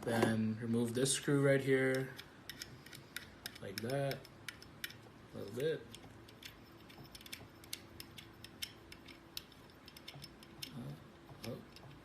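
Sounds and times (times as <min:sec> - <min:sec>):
screw turning metallic clicks: 0:01.8 - 0:12.0.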